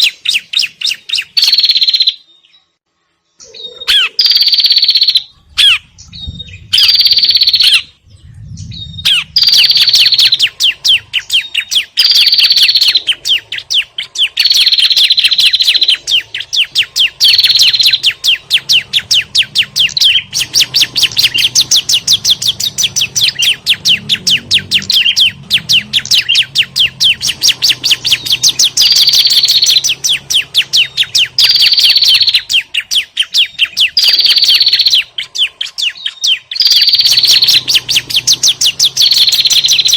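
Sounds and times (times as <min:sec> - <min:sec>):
birds chattering: 0:00.0 - 0:39.9
faint low hum: 0:05.2 - 0:39.9.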